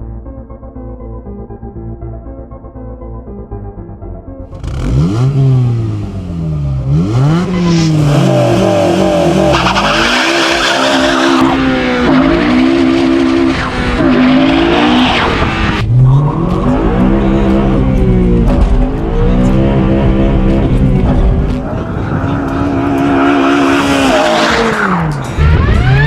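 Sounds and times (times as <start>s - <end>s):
car engine revving hard: 4.5s - 26.0s.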